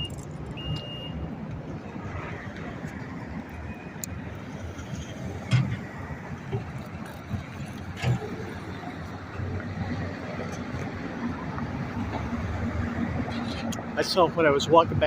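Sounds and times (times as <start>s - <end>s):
traffic and machinery rumble: 0.0s - 15.0s.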